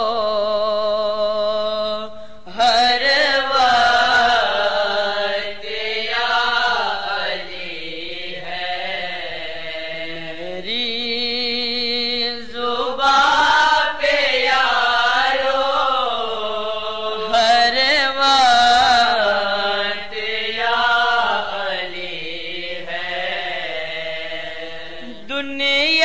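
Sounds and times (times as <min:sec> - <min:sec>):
person singing devotional song: 0:00.0 - 0:26.0.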